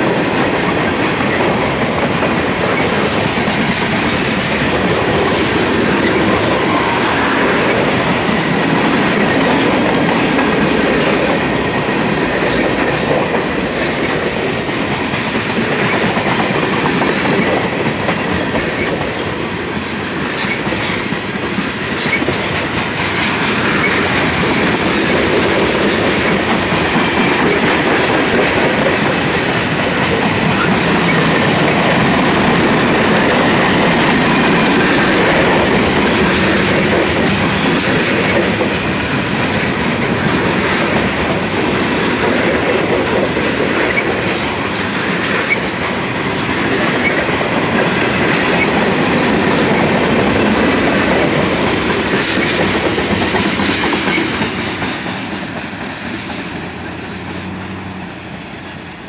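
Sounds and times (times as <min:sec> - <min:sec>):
freight train cars rumbling: 0:00.0 - 0:59.0
wheels clicking over rail joints: 0:00.0 - 0:59.0.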